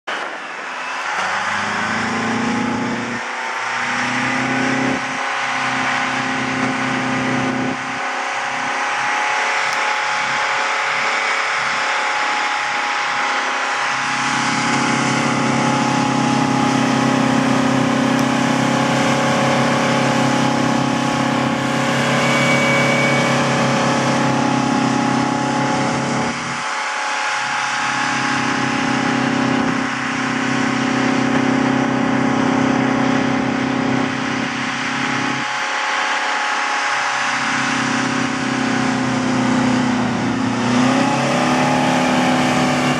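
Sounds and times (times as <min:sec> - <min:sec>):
truck engines running: 0:00.0 - 0:42.9.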